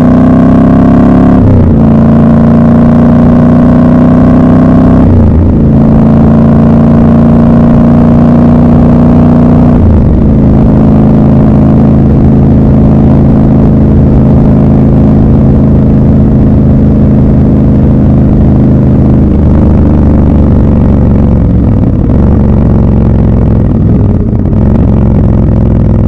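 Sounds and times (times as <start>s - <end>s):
motorcycle engine running loud: 0.0s - 26.0s.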